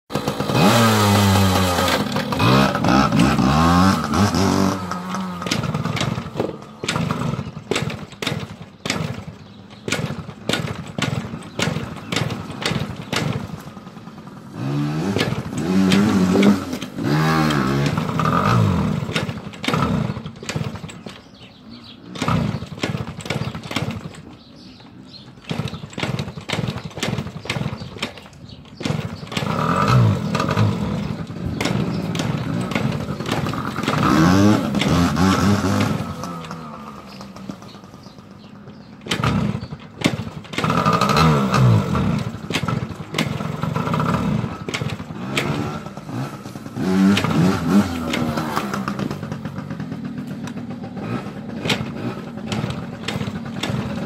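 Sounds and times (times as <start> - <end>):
engine sputtering pops: 0.1 - 54.0
motorcycle engine revving: 0.1 - 54.0.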